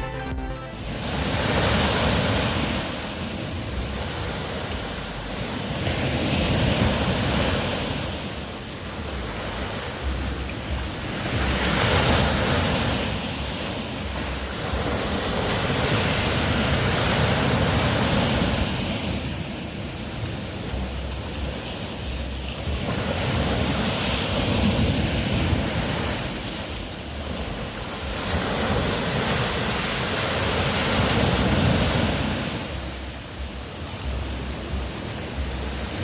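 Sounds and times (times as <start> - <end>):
ocean waves washing in: 0.0 - 36.0.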